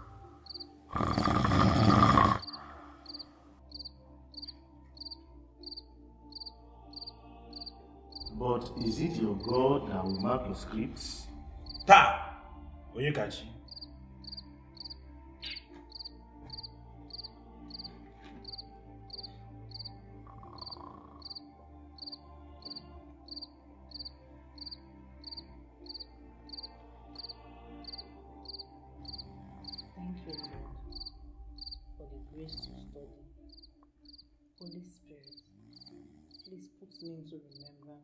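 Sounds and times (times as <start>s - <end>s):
cricket chirping: 0.0s - 12.4s, 13.6s - 31.9s, 33.4s - 36.5s.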